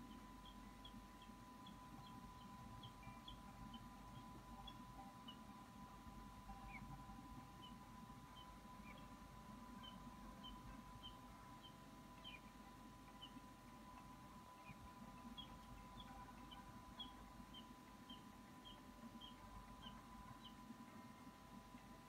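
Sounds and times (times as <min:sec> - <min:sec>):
faint steady hum: 0:00.0 - 0:22.0
bird peeping: 0:00.1 - 0:05.5, 0:06.5 - 0:20.8.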